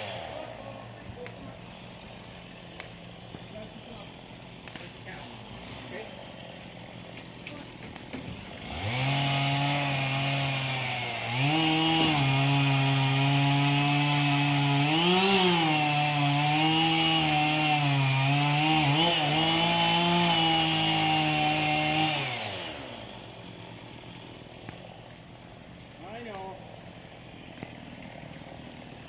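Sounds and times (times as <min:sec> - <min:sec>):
chainsaw at full throttle: 0:00.0 - 0:29.0.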